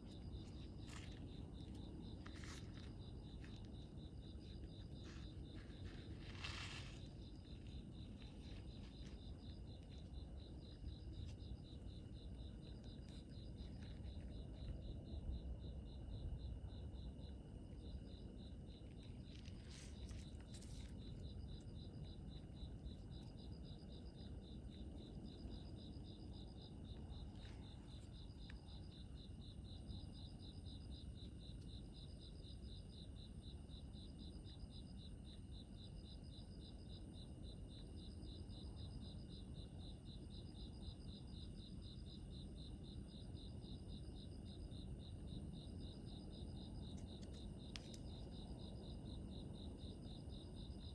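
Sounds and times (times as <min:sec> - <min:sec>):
crickets chirping trill: 0:00.0 - 0:50.9.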